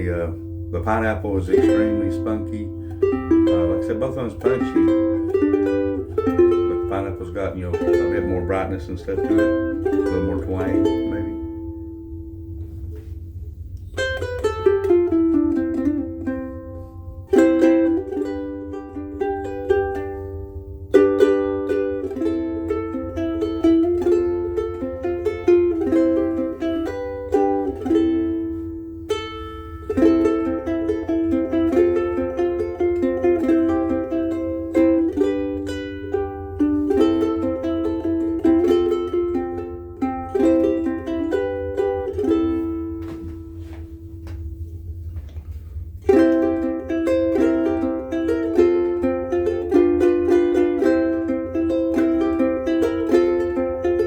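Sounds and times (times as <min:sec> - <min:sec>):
faint low hum: 0:00.0 - 0:54.0
ukulele playing chords and melody: 0:00.0 - 0:54.0.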